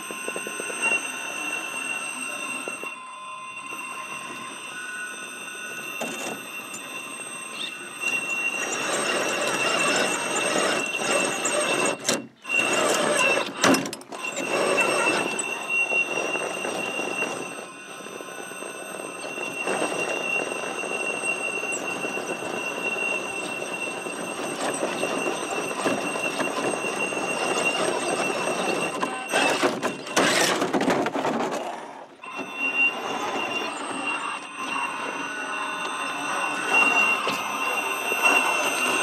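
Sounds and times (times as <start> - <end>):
gears and tyres grinding on stone: 0.0 - 39.0
rc car drivetrain whining: 0.0 - 39.0.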